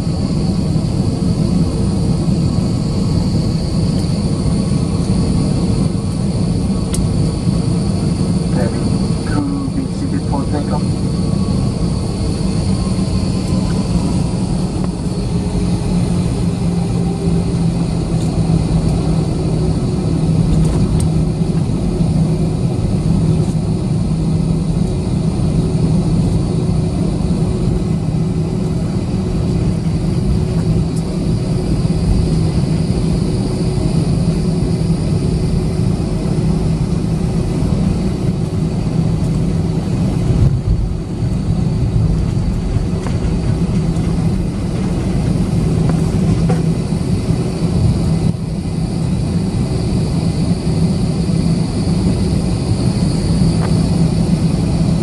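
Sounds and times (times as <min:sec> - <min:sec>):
jet engines hum and whine: 0:00.0 - 0:55.0.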